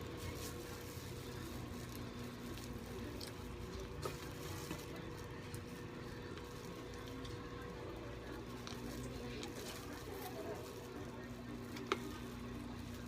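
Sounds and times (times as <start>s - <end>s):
low background hum: 0.0s - 13.0s
chewing: 0.2s - 13.0s.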